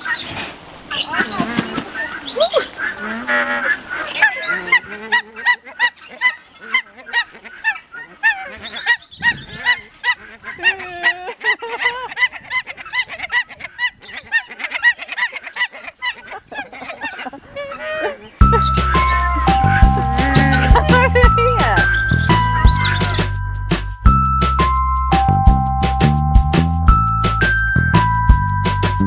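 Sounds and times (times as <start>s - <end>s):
flock of birds calling: 0.0s - 23.4s.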